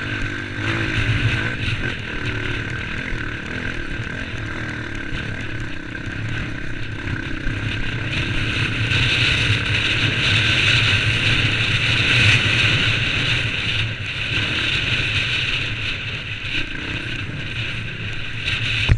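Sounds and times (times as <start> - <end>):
off-road vehicle engine running: 0.0 - 18.9.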